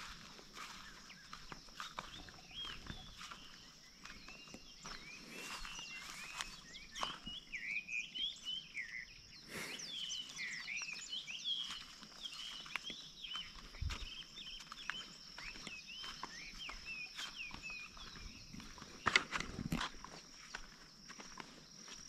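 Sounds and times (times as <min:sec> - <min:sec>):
footsteps on grass and dirt: 0:00.0 - 0:08.8, 0:09.5 - 0:22.0
birds chirping and singing: 0:00.0 - 0:21.4.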